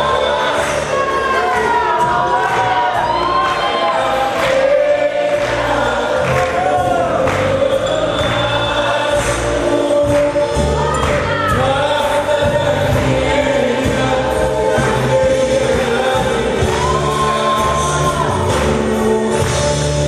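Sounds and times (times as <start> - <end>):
song with singing voices and beat: 0.0 - 20.0.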